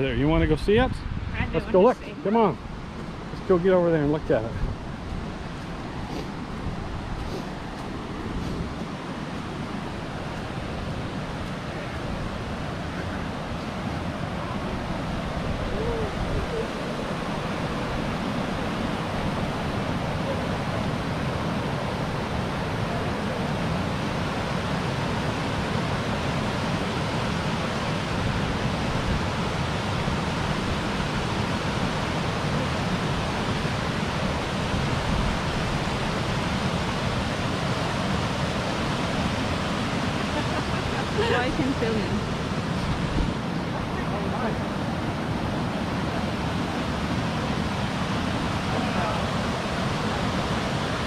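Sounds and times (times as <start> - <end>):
river rushing: 0.0 - 51.0.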